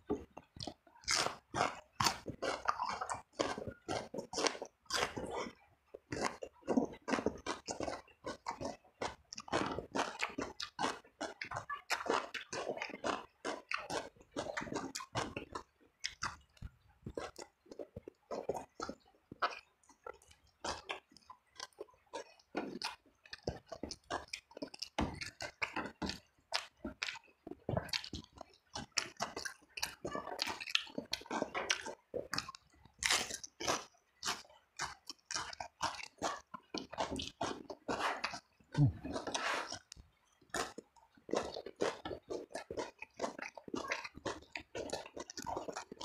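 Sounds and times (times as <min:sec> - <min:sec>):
person chewing crunchy food: 0:00.0 - 0:46.0.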